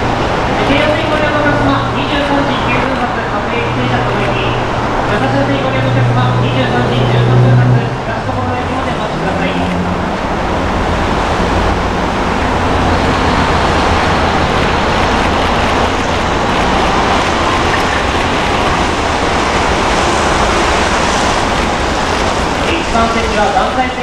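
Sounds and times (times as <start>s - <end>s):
road traffic: 0.0s - 24.0s
train wheels and motors rumbling: 0.0s - 24.0s.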